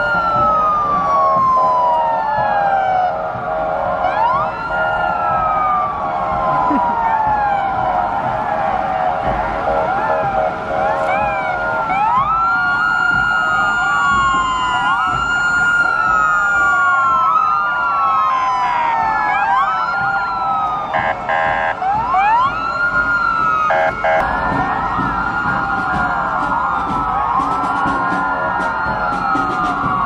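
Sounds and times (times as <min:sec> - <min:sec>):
fire engine sirens wailing: 0:00.0 - 0:30.0.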